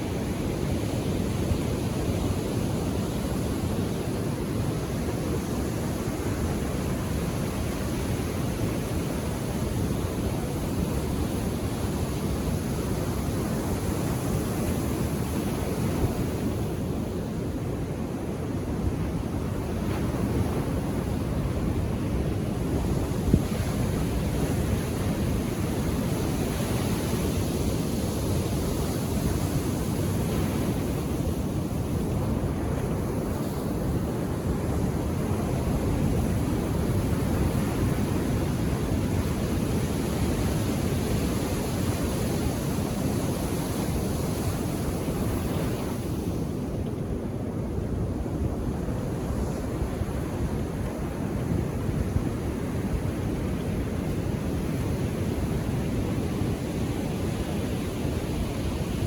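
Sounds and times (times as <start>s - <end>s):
ocean surf washing onto beach: 0.0s - 59.0s.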